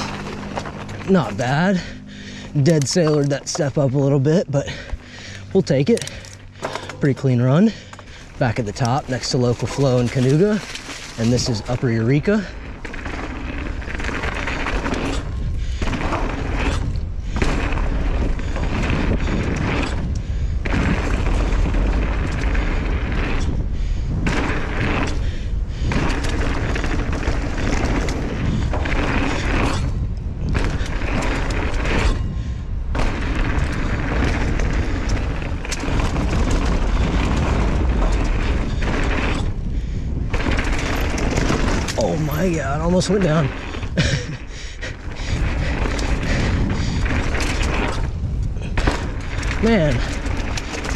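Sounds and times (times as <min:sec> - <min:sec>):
bike rattling: 0:00.0 - 0:50.9
bike tyres on dirt: 0:00.0 - 0:50.9
wind rumble on microphone: 0:00.0 - 0:50.9.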